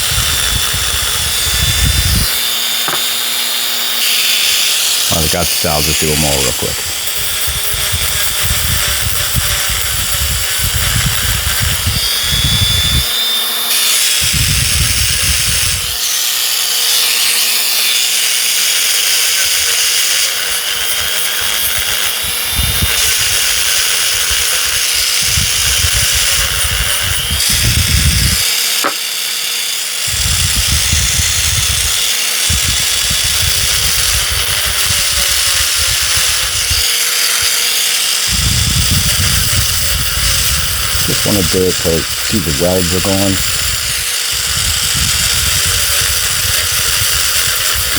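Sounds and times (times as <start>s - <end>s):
grinding metal spot welds: 0.0s - 47.9s
power tool motor running: 0.0s - 47.9s.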